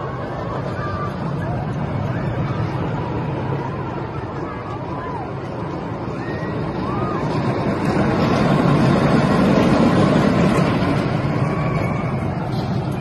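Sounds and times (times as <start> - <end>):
roller coaster cars rumbling: 0.0 - 13.0.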